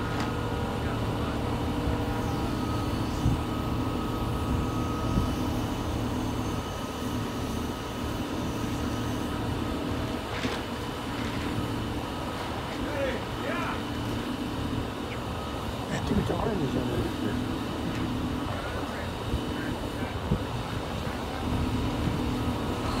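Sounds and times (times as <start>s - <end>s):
crane diesel engine droning: 0.0s - 23.0s.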